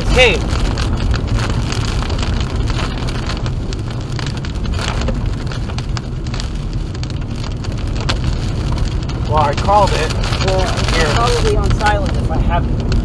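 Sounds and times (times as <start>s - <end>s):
car road noise rumble: 0.0s - 13.0s
rain pattering on car: 0.0s - 13.0s.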